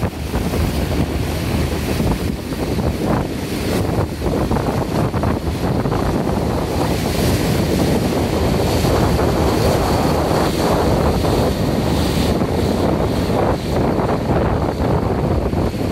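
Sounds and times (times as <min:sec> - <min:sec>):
water rushing and splashing: 0:00.0 - 0:15.9
wind buffeting microphone: 0:00.0 - 0:15.9.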